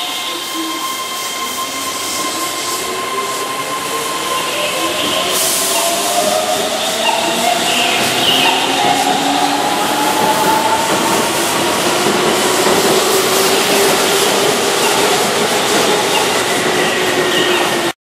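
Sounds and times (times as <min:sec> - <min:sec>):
train wheels running on rails: 0:00.0 - 0:17.9.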